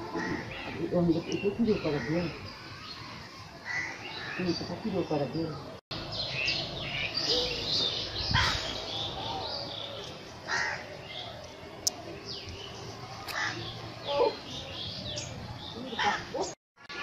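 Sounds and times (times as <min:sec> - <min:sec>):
birds chirping: 0:00.0 - 0:17.0
harsh bird calls: 0:00.0 - 0:17.0.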